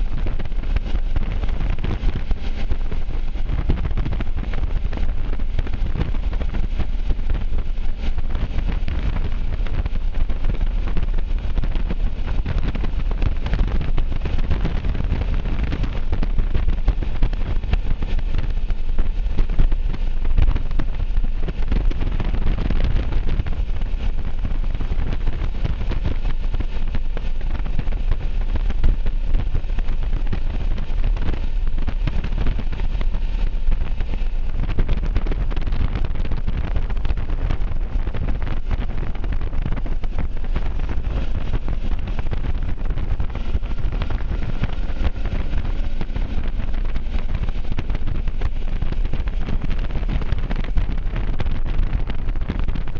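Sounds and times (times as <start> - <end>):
road noise: 0.0 - 52.9
wind rushing over microphone: 0.0 - 52.9.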